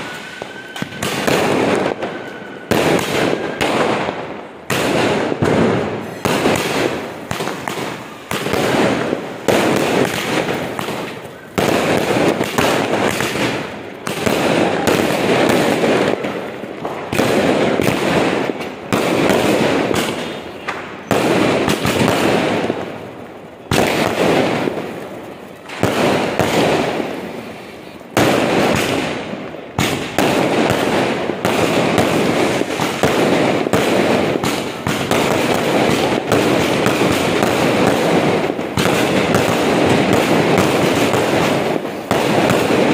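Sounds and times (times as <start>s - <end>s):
fireworks bursting: 0.0s - 42.9s
fireworks crackling: 0.0s - 42.9s.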